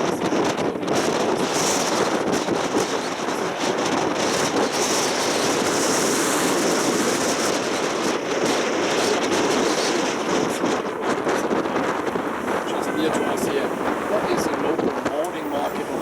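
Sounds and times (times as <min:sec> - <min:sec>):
vehicle and road noise: 0:00.0 - 0:16.0
wind on microphone: 0:00.0 - 0:16.0.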